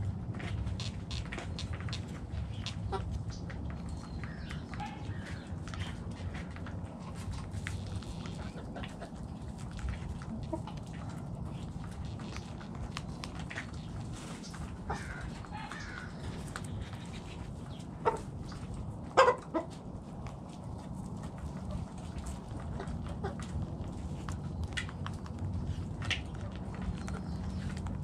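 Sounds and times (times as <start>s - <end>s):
low background rumble: 0.0s - 28.0s
hens clucking: 0.1s - 28.0s.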